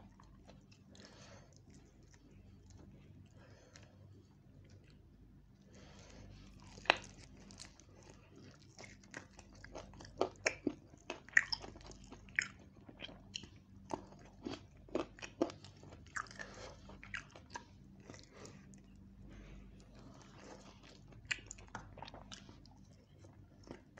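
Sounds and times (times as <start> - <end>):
faint steady hum: 0.0 - 23.9
person chewing and smacking: 0.0 - 23.9.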